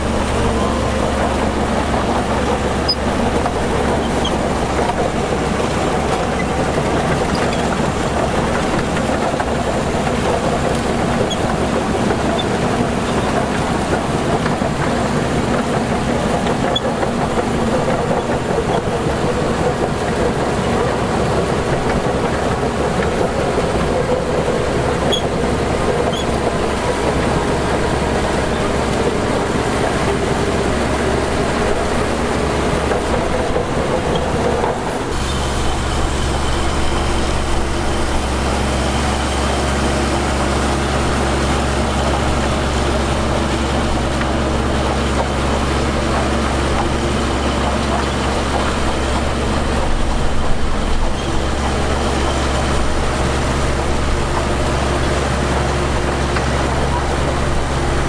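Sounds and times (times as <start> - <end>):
heavy machinery diesel engine: 0.0 - 58.0
tracks clanking: 0.0 - 58.0.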